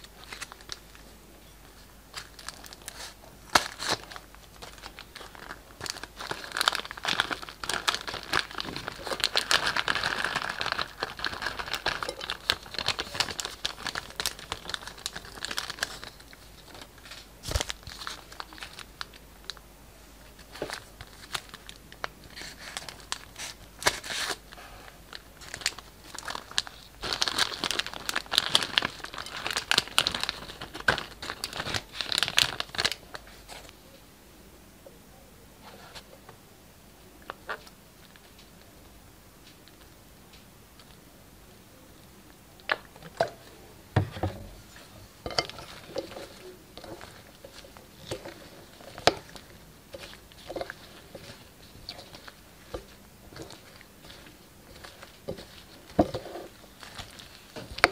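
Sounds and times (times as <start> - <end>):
plastic bags crinkling: 0.0 - 19.6, 20.4 - 33.7, 42.6 - 57.9.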